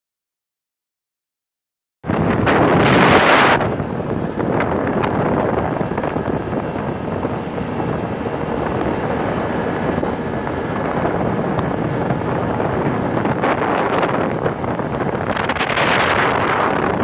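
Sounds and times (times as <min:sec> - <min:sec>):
wind noise on microphone: 0:02.0 - 0:17.0
outboard motor running: 0:02.1 - 0:17.0.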